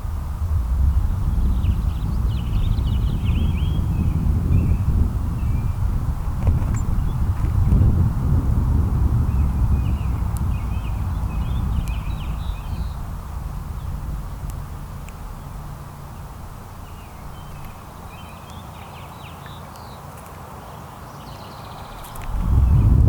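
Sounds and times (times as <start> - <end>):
wind rumble on microphone: 0.0 - 20.0, 21.0 - 23.0
songbirds chirping: 0.0 - 23.0.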